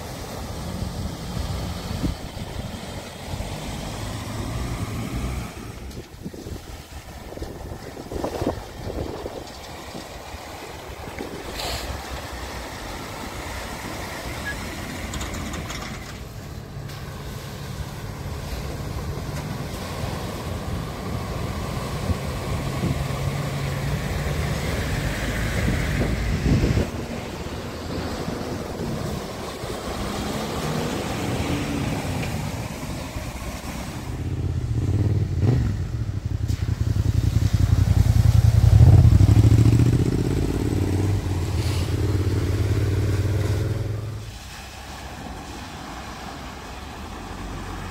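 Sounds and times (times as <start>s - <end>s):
van engine hum: 0.0s - 47.9s
vehicle engines under load: 0.0s - 47.9s
water splashing around wheels: 0.0s - 47.9s.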